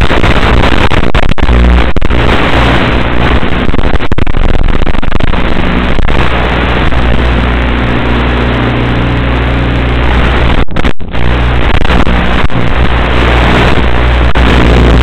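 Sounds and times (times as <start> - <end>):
loud hiss and buzz: 0.0 - 15.0
low electrical hum: 0.0 - 15.0.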